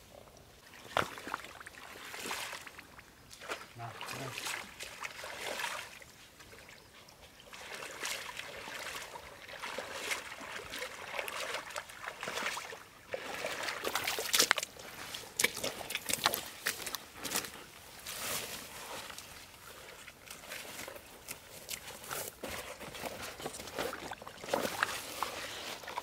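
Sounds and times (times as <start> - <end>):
pond water sloshing and splashing: 0.0 - 26.0.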